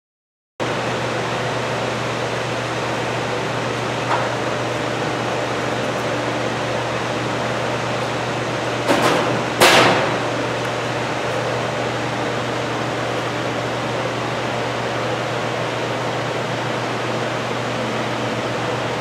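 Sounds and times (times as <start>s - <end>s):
ventilation fan hum and hiss: 0.6s - 19.0s.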